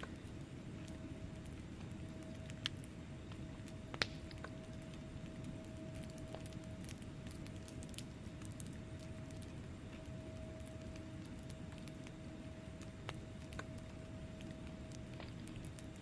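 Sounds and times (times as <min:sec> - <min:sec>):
burning logs crackling and popping: 0:00.0 - 0:16.0.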